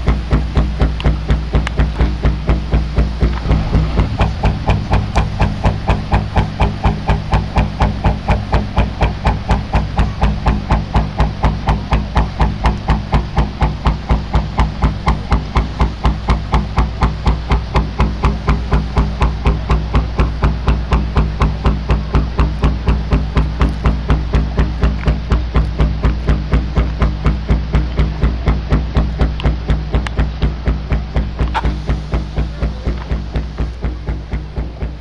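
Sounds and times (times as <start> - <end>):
low drone: 0.0 - 35.0
music with fast knocking beat: 0.0 - 35.0.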